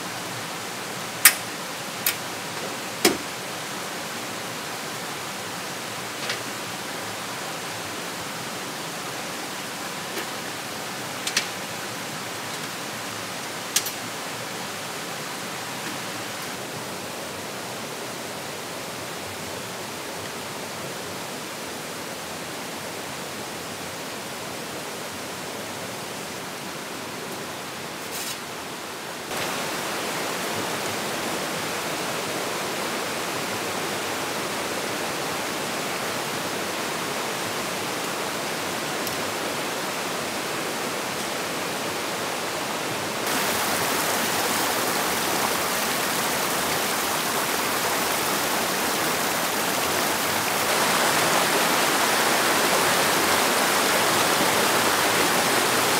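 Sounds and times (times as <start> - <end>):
rushing rocky stream: 0.0 - 55.9.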